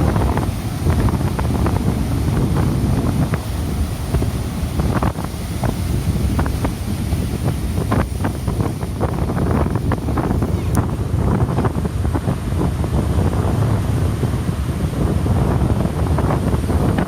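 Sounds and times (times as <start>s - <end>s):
heavy surf: 0.0s - 17.0s
wind buffeting microphone: 0.0s - 17.0s.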